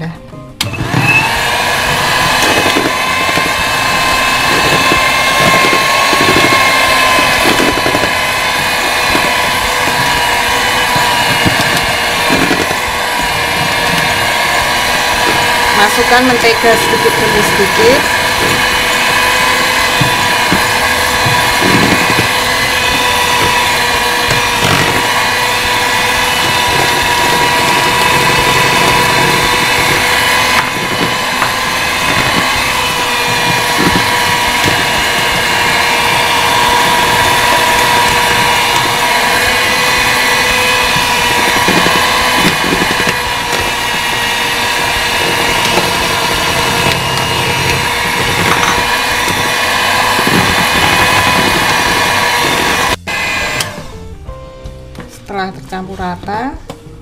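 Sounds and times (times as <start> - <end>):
electric hand mixer whining: 0.0 - 54.4.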